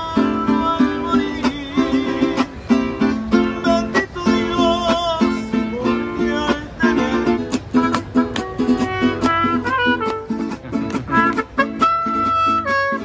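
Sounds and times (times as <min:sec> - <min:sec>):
strummed guitar chords: 0:00.0 - 0:13.0
wavering guitar melody: 0:00.0 - 0:13.0.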